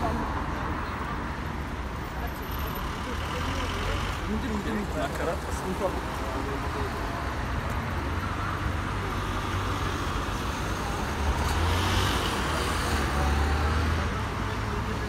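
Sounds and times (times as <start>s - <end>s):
car engines and tyres rumbling: 0.0s - 15.0s.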